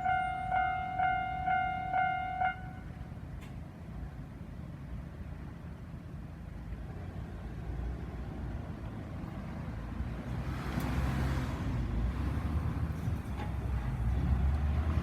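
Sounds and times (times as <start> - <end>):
vehicle rumble approaching: 0.0 - 15.0.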